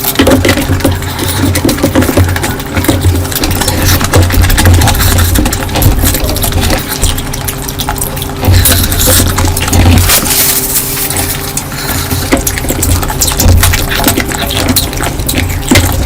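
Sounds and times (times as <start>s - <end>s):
wet chewing and slurping: 0.0s - 16.0s.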